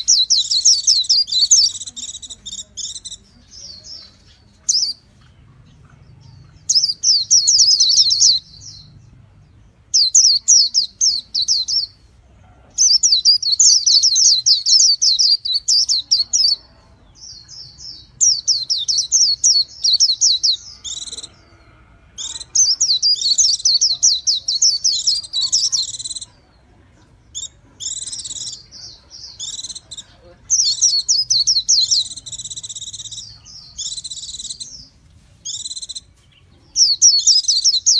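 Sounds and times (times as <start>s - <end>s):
bird twittering song: 0.0s - 12.0s, 12.8s - 37.9s.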